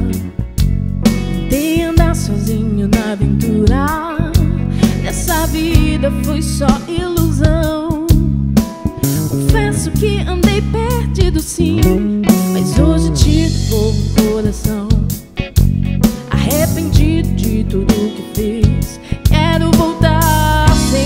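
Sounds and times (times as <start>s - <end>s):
live worship band: 0.0s - 21.0s.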